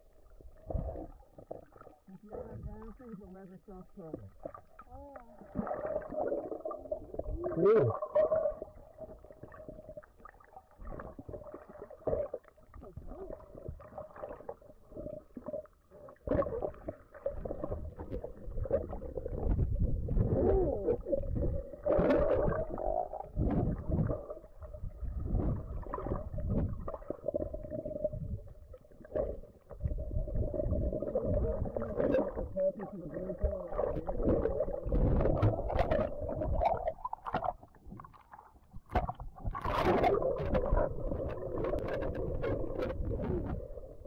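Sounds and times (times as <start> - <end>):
underwater gurgling and rumbles: 0.0 - 44.0.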